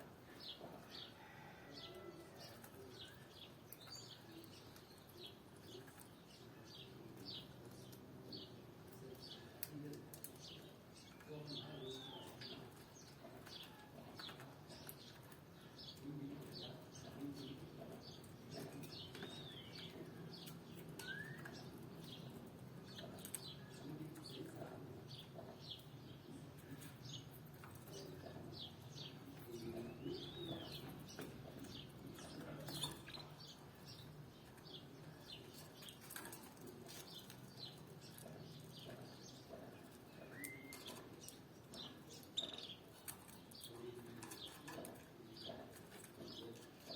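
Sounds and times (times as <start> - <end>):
canaries chirping: 0.0 - 46.9.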